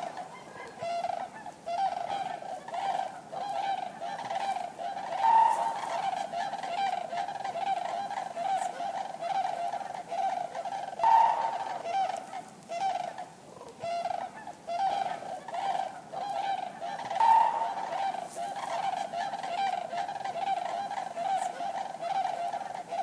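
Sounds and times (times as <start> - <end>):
cranes trumpeting calls: 0.0 - 23.0.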